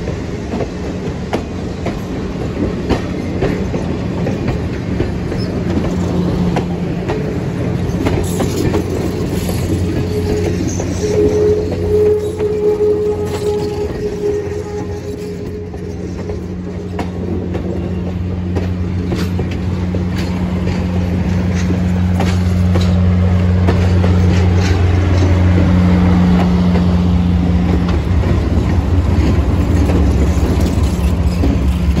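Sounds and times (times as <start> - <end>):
locomotive engine drone: 0.0 - 32.0
wheels clicking over rail joints: 0.0 - 32.0.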